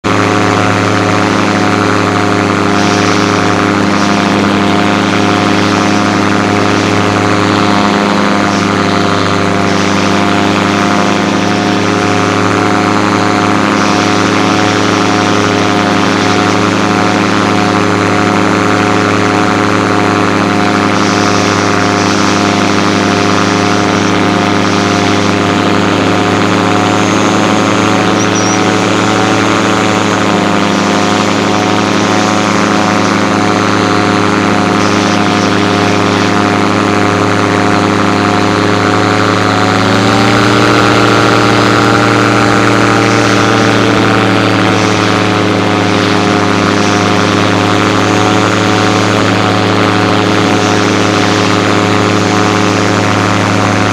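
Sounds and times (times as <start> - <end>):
gyrocopter engine and propeller drone: 0.0 - 53.9.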